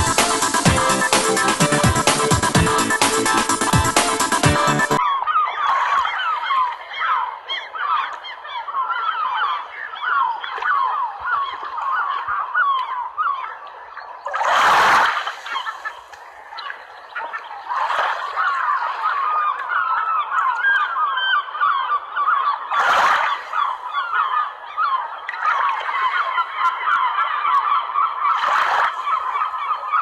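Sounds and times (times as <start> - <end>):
waterbirds honking: 0.0 - 30.0.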